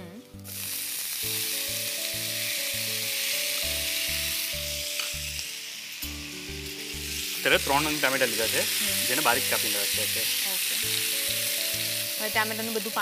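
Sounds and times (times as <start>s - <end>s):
tomatoes sizzling in a frying pan: 0.1s - 13.0s.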